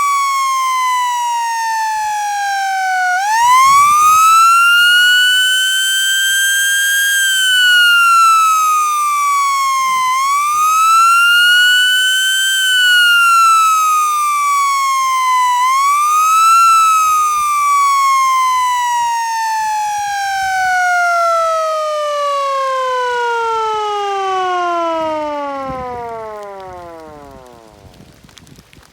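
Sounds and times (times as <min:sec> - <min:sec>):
warning siren wailing: 0:00.0 - 0:28.5.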